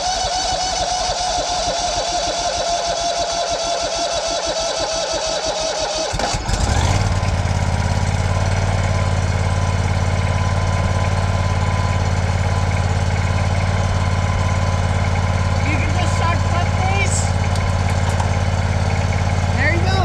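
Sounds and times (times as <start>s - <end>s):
electric starter cranking: 0.0s - 20.0s
lawn tractor engine running: 0.0s - 20.0s.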